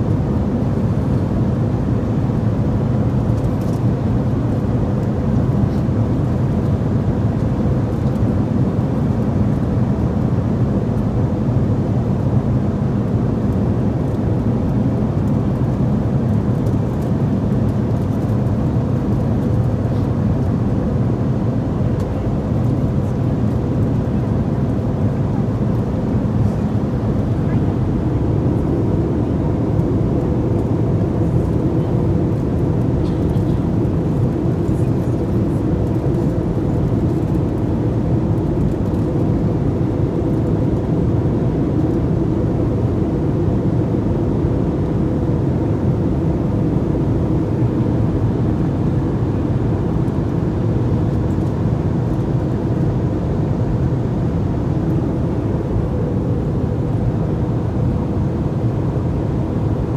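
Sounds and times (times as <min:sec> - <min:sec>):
airliner engines rumbling: 0:00.0 - 0:59.9.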